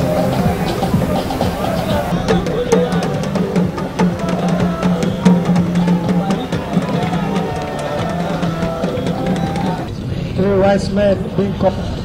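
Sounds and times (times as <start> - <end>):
music with heavy drumming: 0.0 - 9.9.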